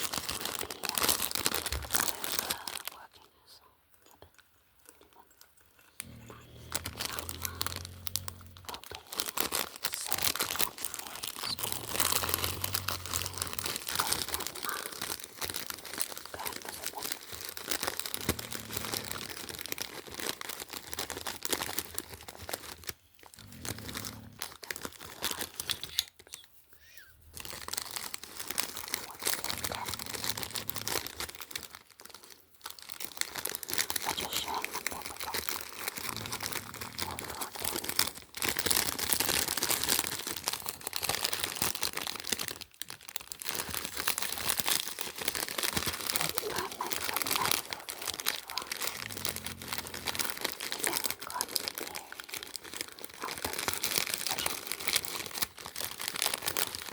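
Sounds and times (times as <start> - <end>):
packaging crinkling and tearing: 0.0 - 3.2, 4.0 - 56.9.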